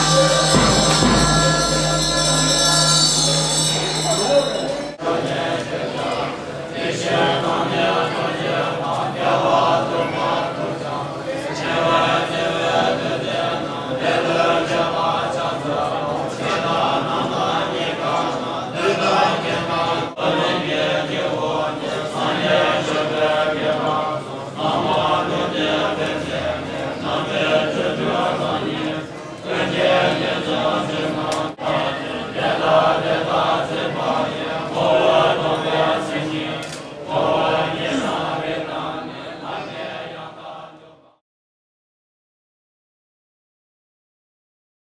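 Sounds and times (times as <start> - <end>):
monks chanting together: 0.0 - 41.2.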